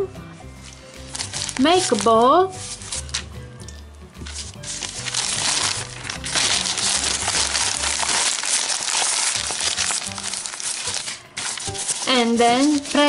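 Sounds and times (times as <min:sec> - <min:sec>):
background music: 0:00.0 - 0:13.0
newspaper crumpling: 0:00.4 - 0:13.0.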